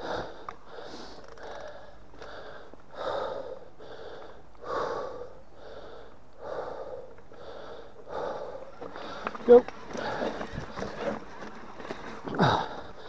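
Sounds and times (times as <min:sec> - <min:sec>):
person panting heavily: 0:00.0 - 0:11.2, 0:11.9 - 0:13.0.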